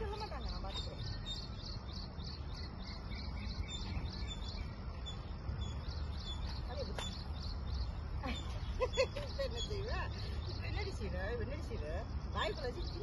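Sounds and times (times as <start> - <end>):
bird high chirp: 0.0 - 13.0.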